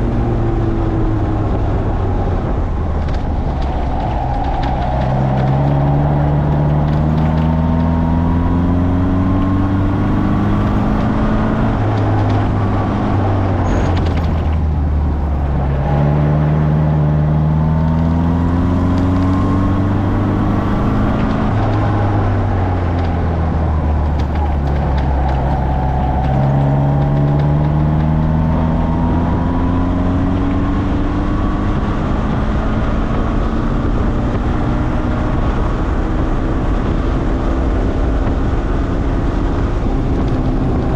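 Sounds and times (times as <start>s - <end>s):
sports car engine accelerating: 0.0s - 40.9s.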